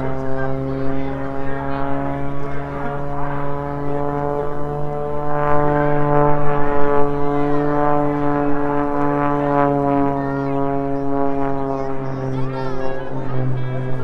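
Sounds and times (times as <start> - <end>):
aircraft engine drone: 0.0 - 14.0
faint crowd voices: 0.0 - 14.0.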